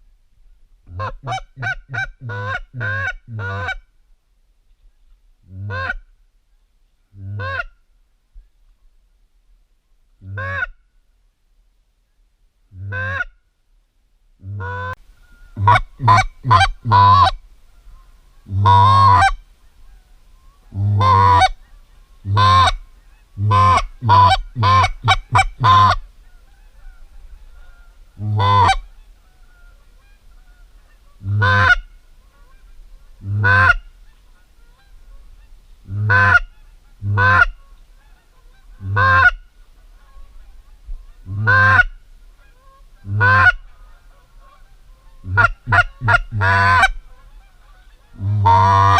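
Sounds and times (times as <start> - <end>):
goose honking: 0.9 - 3.8, 5.6 - 6.0, 7.2 - 7.7, 10.2 - 10.8, 12.8 - 13.4, 14.4 - 48.9.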